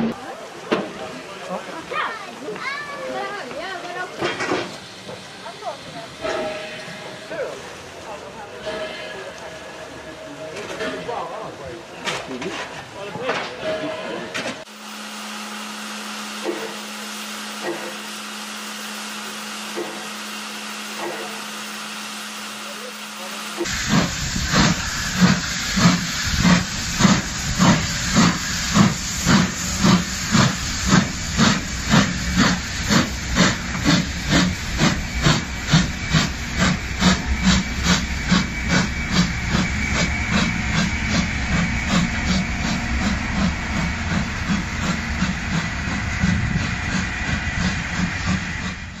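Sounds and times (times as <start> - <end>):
steam locomotive chuffing: 3.8 - 12.8, 13.5 - 49.0.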